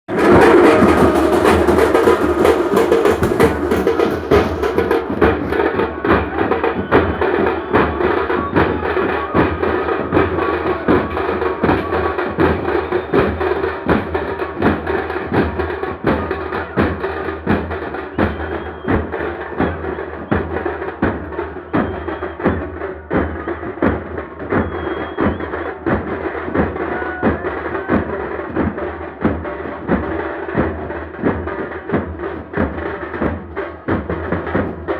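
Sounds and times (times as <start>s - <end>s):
fast drum beats: 0.0s - 34.9s.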